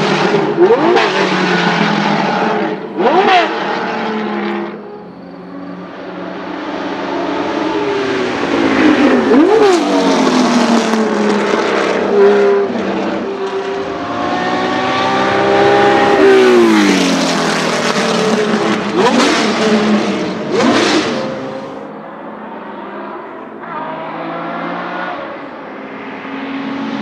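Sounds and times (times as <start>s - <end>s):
racing engine revving: 0.0s - 4.8s, 5.6s - 21.8s, 22.6s - 25.4s.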